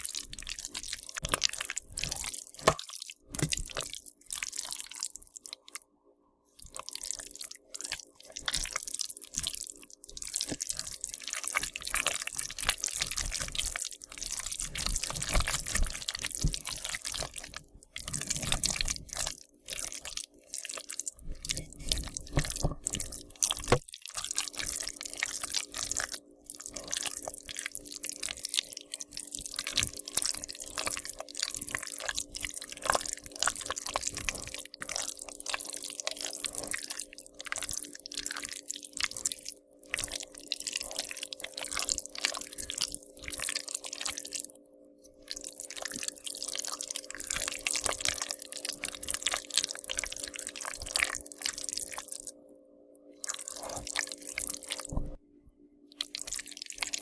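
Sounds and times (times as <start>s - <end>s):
wet chewing and squelching: 0.0s - 5.8s, 6.6s - 44.5s, 45.1s - 52.4s, 53.2s - 55.2s, 55.9s - 57.0s.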